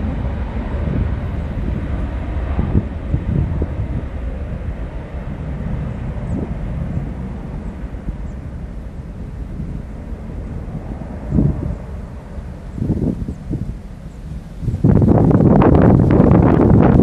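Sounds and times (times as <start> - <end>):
jet engines rumbling: 0.0 - 17.0
wind hitting microphone: 0.0 - 17.0.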